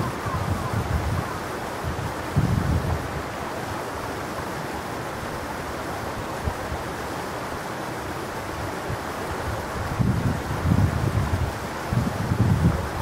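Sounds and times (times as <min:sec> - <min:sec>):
stream babbling over rocks: 0:00.0 - 0:13.0.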